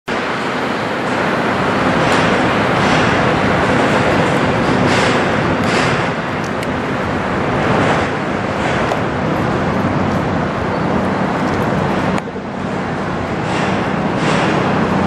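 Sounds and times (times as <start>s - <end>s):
boat engine drone: 0.1s - 15.0s
loud rushing noise: 0.1s - 15.0s.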